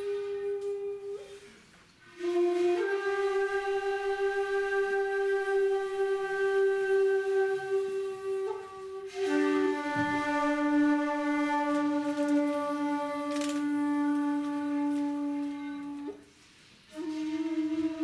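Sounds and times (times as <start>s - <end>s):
bamboo flute long notes: 0.0s - 18.0s.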